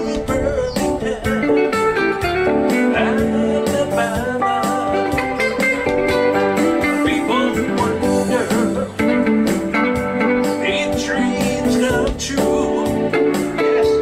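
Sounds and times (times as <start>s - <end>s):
live band with guitars: 0.0s - 14.0s.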